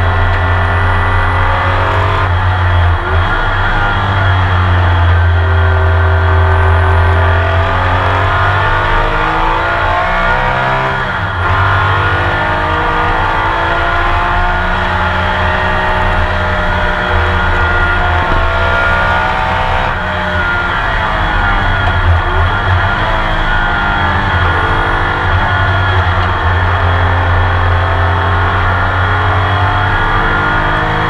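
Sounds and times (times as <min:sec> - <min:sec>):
racing engine accelerating: 0:00.0 - 0:31.0.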